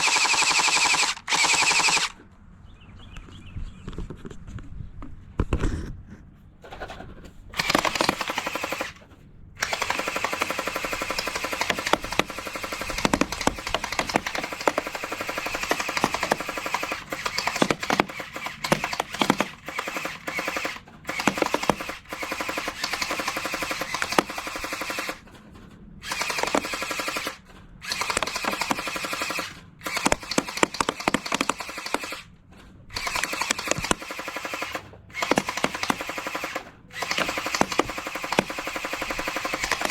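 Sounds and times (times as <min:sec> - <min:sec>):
motor whirring: 0:00.0 - 0:02.2, 0:07.6 - 0:09.0, 0:09.6 - 0:25.2, 0:26.0 - 0:32.3, 0:32.9 - 0:39.9
toy blaster firing full auto: 0:00.0 - 0:02.2, 0:07.6 - 0:09.0, 0:09.6 - 0:25.2, 0:26.0 - 0:32.3, 0:32.9 - 0:39.9.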